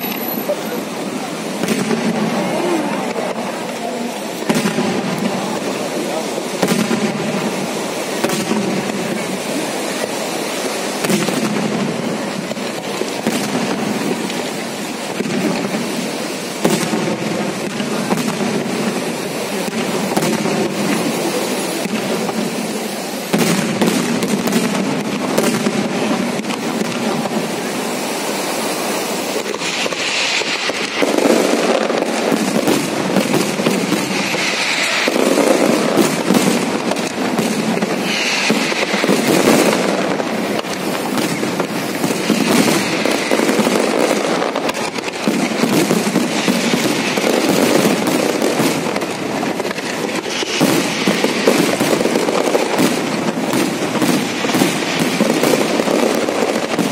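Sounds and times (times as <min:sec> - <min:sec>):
fireworks bursts: 0:00.0 - 0:56.9
fireworks crackling and popping: 0:00.0 - 0:56.9.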